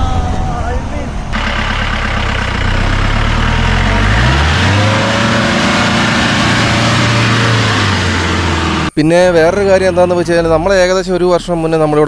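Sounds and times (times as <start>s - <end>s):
jeep engine revving: 1.3s - 11.9s.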